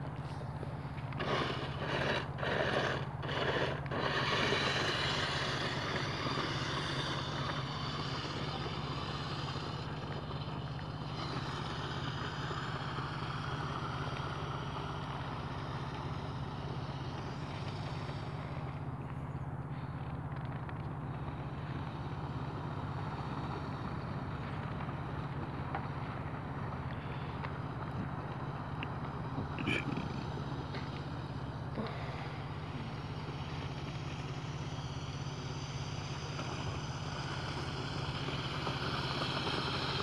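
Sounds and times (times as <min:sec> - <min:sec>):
constant low hum: 0:00.0 - 0:40.0
electric motor whining: 0:00.0 - 0:40.0.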